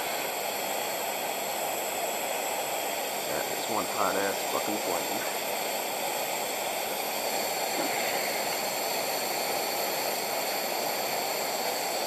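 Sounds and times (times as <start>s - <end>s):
stove burner hissing: 0.0s - 12.0s.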